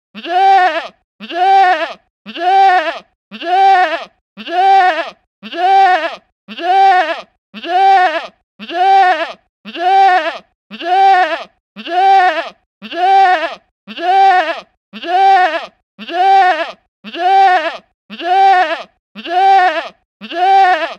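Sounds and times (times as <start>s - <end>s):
goat bleating: 0.2s - 20.9s.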